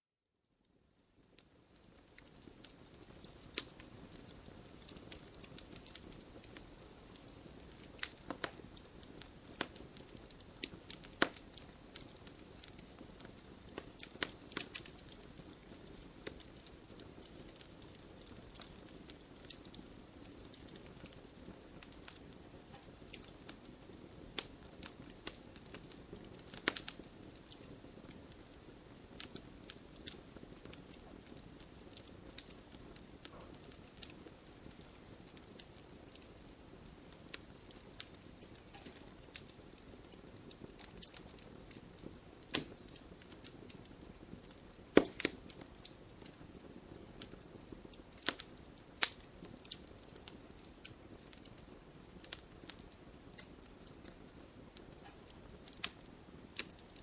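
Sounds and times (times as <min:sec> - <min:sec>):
wood fire crackling: 0:00.6 - 0:57.0.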